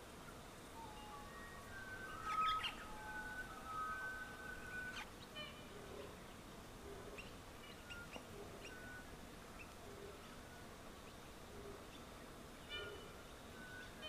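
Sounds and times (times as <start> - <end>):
quiet bush ambience: 0.0 - 14.0
faint bird chirps and whistles: 0.2 - 14.0.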